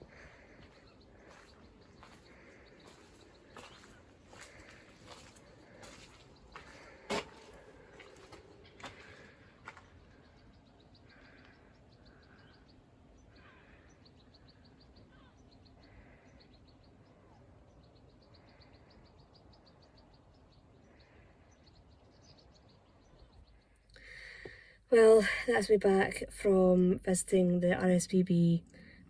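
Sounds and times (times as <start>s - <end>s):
faint birdsong trill: 0.0s - 29.0s.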